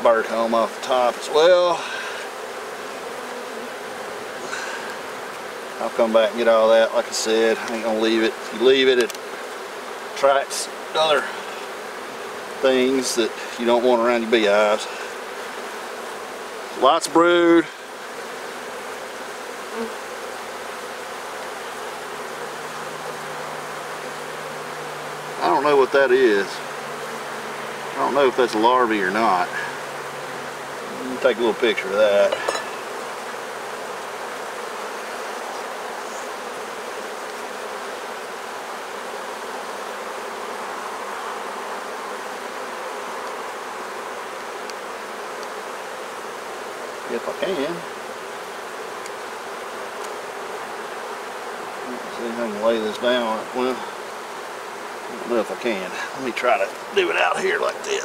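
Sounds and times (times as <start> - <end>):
honey bees buzzing: 0.0 - 58.0.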